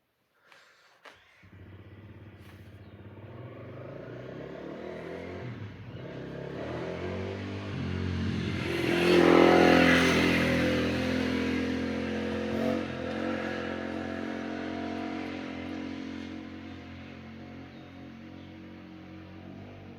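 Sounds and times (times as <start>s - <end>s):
engine humming: 1.0s - 19.9s.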